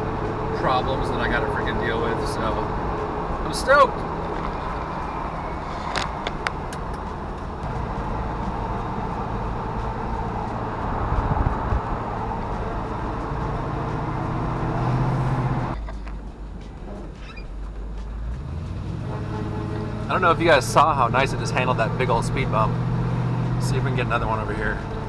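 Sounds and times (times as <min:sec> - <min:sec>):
car engine running: 0:00.0 - 0:25.0
road noise in cabin: 0:00.0 - 0:25.0.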